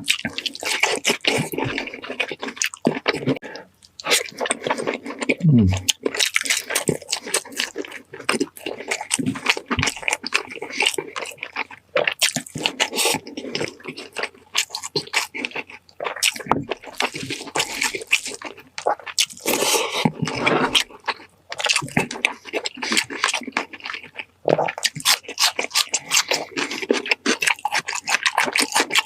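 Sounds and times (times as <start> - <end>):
wet chewing sounds: 0.0 - 29.0.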